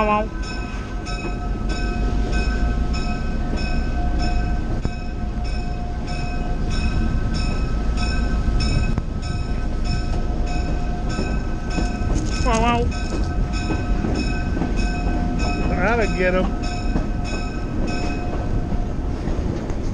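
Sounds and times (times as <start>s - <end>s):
train rumbling on rails: 0.0s - 19.9s.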